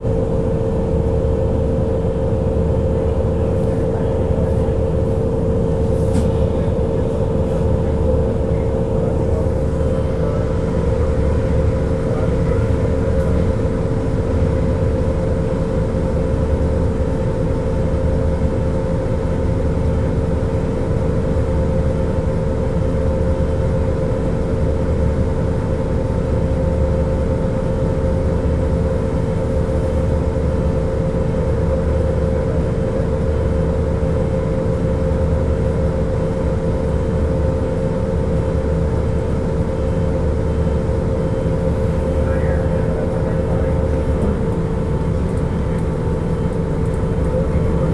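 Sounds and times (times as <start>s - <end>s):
bus engine low rumble: 0.0s - 47.9s
constant high whine: 0.0s - 47.9s.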